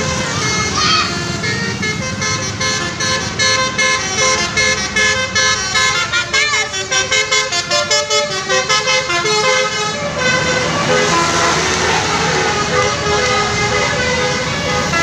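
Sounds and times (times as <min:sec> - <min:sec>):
musical vehicle horn tune: 0:00.0 - 0:15.0.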